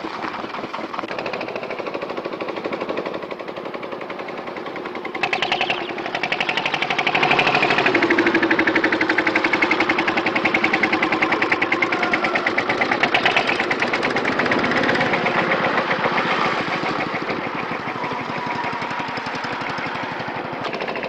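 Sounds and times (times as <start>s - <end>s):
machine knocking rhythmically: 0.7s - 18.2s.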